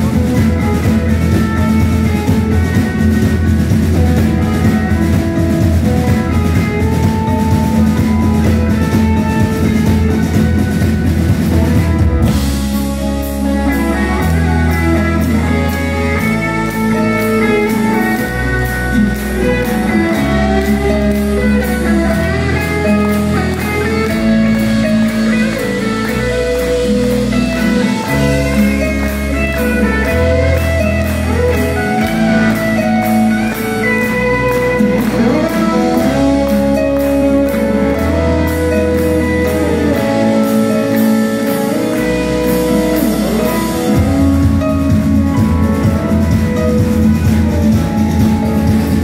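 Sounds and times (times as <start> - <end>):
bass line: 0.0 - 49.0
electric guitar: 0.0 - 49.0
keyboards: 0.0 - 49.0.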